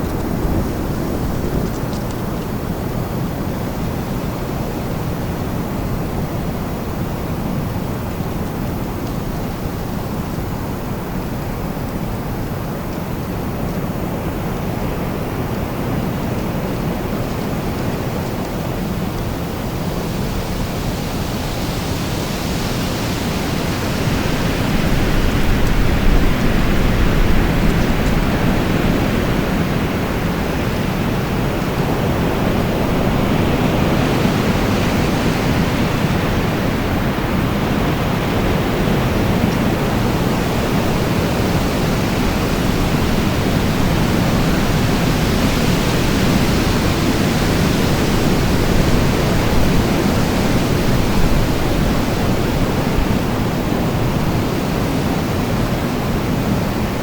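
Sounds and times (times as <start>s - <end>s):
strong wind blowing: 0.0s - 57.0s.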